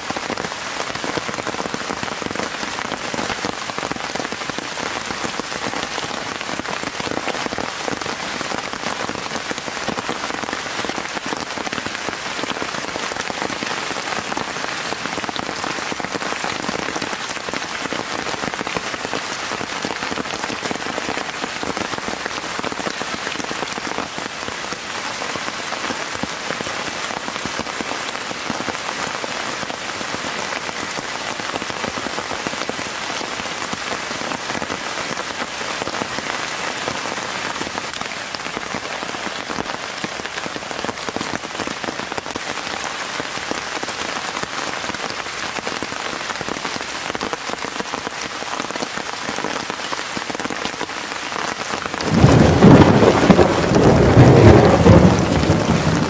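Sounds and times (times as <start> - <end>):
rain pattering on a tent: 0.0 - 56.0.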